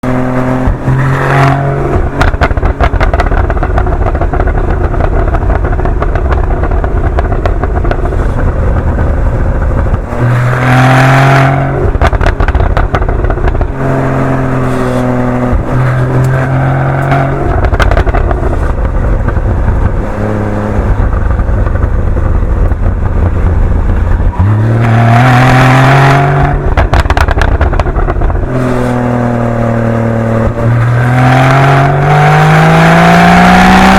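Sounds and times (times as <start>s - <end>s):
car engine revving: 0.0s - 33.9s
exhaust pops and crackles: 0.2s - 32.6s.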